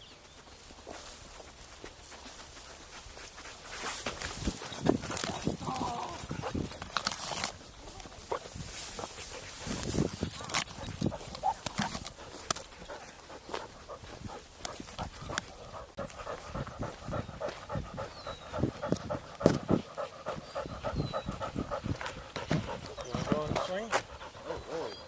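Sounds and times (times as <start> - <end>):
dog panting: 1.4 - 25.0.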